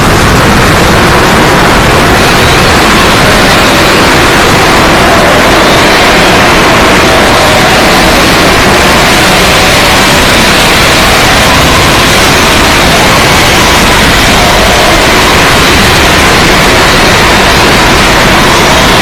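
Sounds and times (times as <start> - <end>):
heavily distorted static noise: 0.0 - 19.0.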